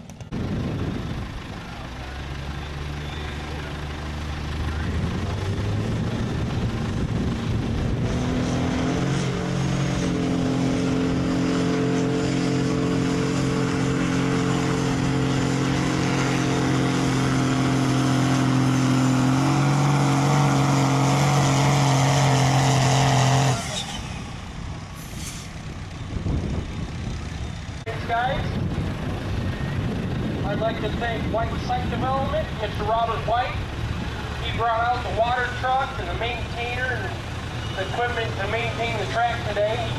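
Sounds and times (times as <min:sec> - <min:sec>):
diesel truck engine at full throttle: 0:00.0 - 0:39.9.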